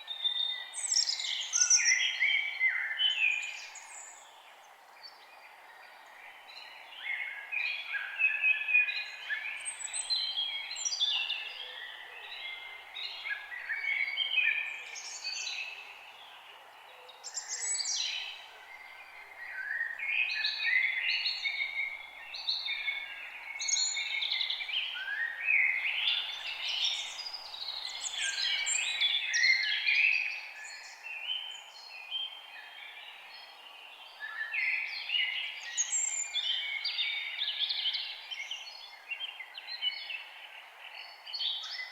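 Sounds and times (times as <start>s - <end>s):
faint background hiss: 0.0s - 41.9s
songbirds chirping and warbling: 0.0s - 41.9s.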